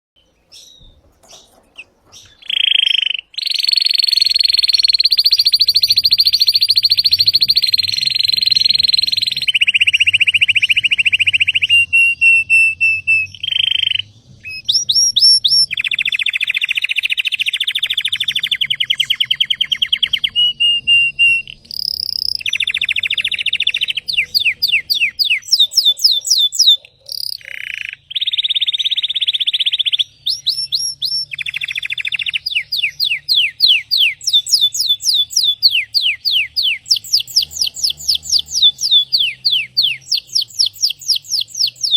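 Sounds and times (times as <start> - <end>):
canary singing: 0.2 - 41.9.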